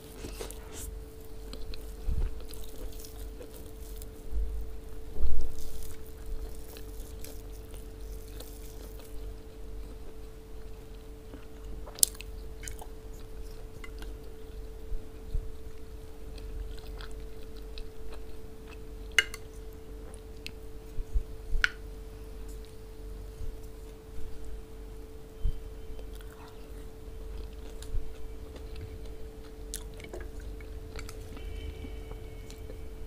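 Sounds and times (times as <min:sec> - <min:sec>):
chewing and wet mouth sounds: 0:00.0 - 0:21.8, 0:25.9 - 0:32.8
faint steady hum: 0:00.0 - 0:33.0.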